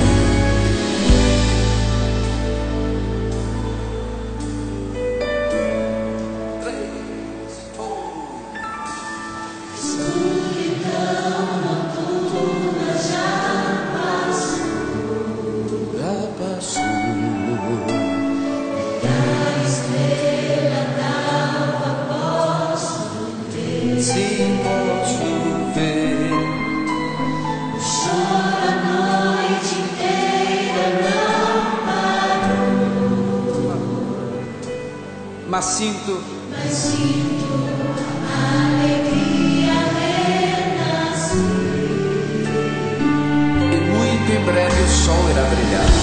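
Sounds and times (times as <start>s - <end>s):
choir singing gospel: 0.0s - 46.0s
instrumental accompaniment: 0.0s - 46.0s.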